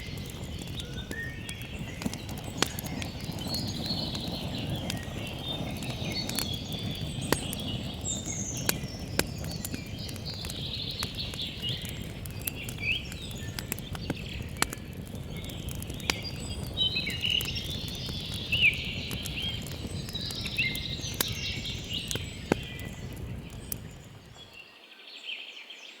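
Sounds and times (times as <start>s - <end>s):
campfire crackling and popping: 0.0s - 24.6s
birds chirping and singing: 0.0s - 24.7s.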